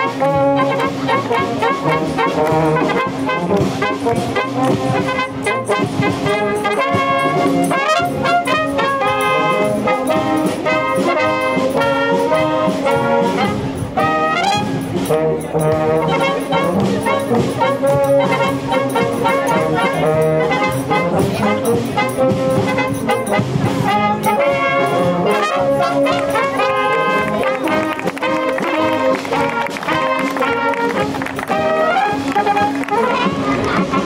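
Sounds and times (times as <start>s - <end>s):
brass band playing a march: 0.0s - 34.0s.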